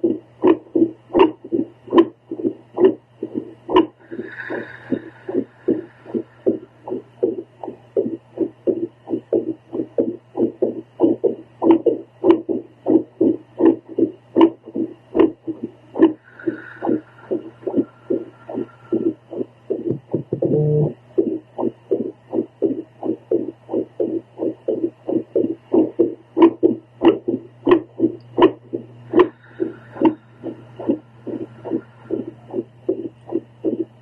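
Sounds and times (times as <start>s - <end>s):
low device hum: 0.0s - 34.0s
whooshing heartbeat pulses: 0.0s - 34.0s.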